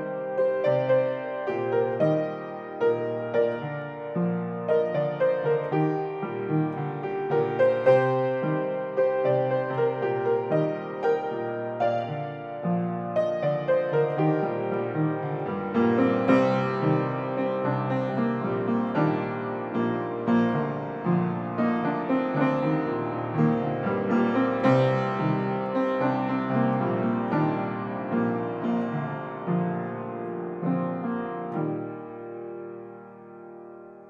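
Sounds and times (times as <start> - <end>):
solo piano playing: 0.0 - 34.0.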